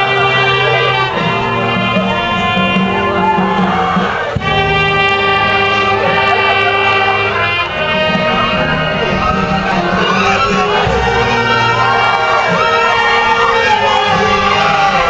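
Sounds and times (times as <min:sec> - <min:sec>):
brass chords: 0:00.0 - 0:15.0.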